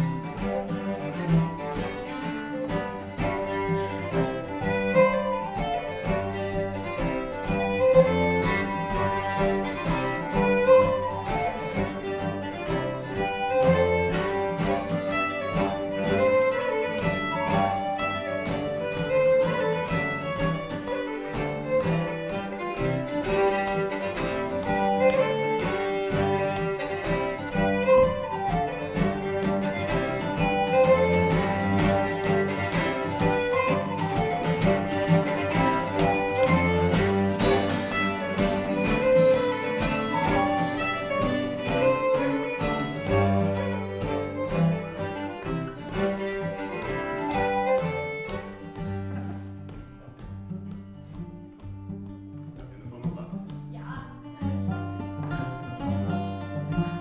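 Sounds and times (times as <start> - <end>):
small string band playing: 0.0 - 57.0
violin: 0.0 - 57.0.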